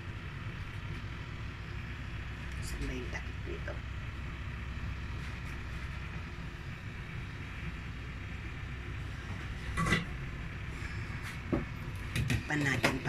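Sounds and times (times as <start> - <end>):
stove rumbling with hiss: 0.0 - 13.0.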